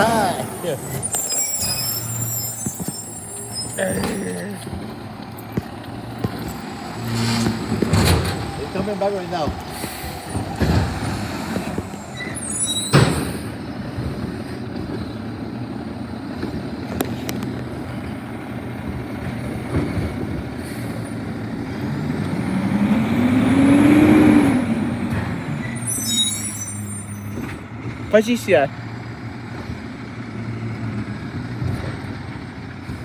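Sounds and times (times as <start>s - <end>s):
garbage truck diesel engine: 0.0s - 33.0s.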